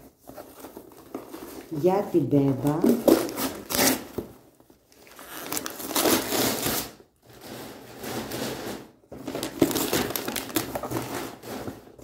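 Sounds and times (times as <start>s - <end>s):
toy packaging rustling: 0.0s - 12.0s.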